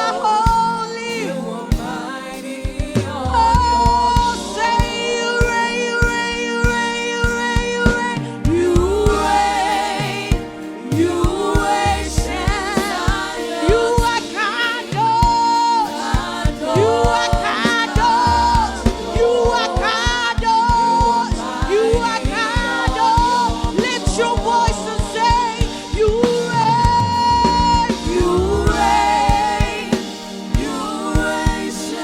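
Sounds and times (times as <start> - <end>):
band playing: 0.0 - 32.0
singers singing slow melody: 0.0 - 32.0
steady drum beat: 0.0 - 32.0.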